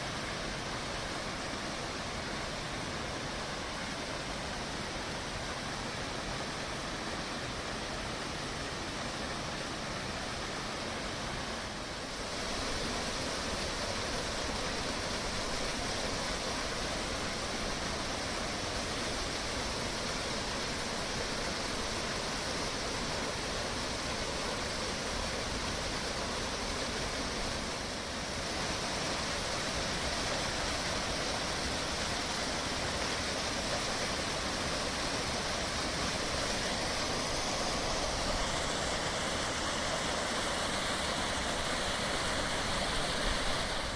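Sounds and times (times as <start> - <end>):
small waterfall rushing: 0.0 - 43.9.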